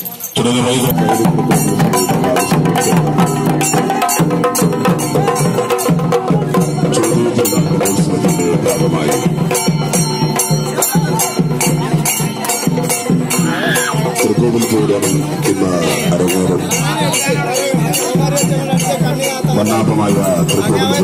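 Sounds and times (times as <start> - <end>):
drums beating fast rhythm: 0.0 - 21.0.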